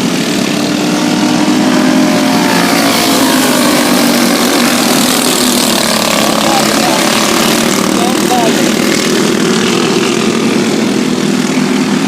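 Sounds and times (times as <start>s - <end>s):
race car engines blaring: 0.0s - 12.0s.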